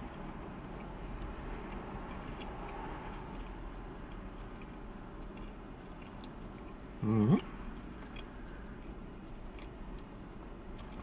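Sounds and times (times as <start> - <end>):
closed-mouth chewing: 0.0 - 11.0.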